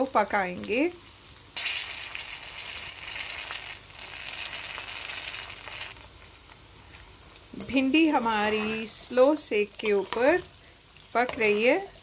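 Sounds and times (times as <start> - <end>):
okra sizzling in oil: 0.0 - 12.0.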